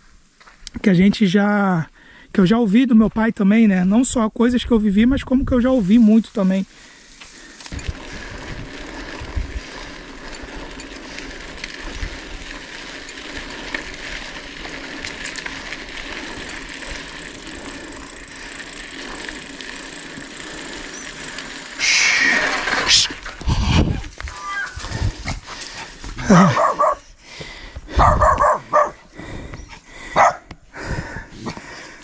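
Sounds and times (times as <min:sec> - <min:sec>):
bike tyres on gravel: 0:02.6 - 0:32.0.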